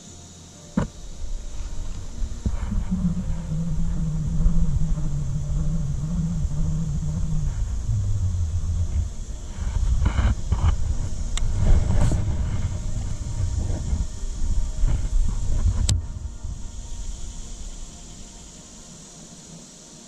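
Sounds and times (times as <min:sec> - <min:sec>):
engine drone: 0:00.0 - 0:20.0
low rumble: 0:00.8 - 0:18.5.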